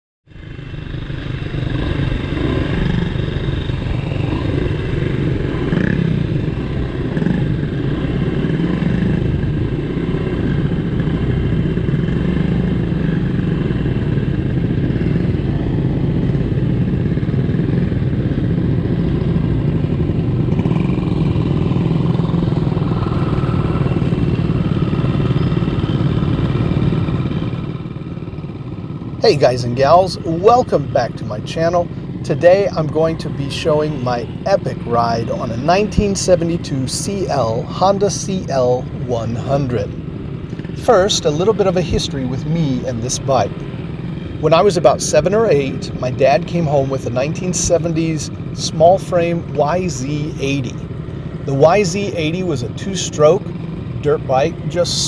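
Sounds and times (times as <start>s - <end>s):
motorcycle engine running: 0.3s - 55.0s.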